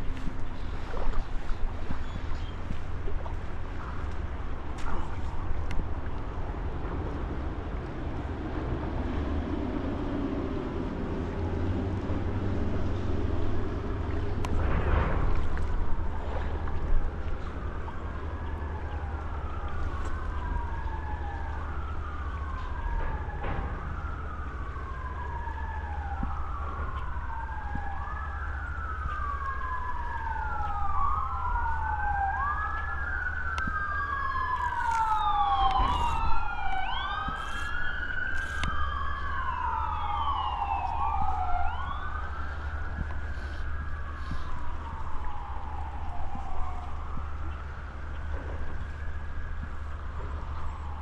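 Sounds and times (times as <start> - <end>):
higher-pitched siren: 0.0 - 4.0, 13.1 - 51.0
emergency sirens wailing: 0.0 - 51.0.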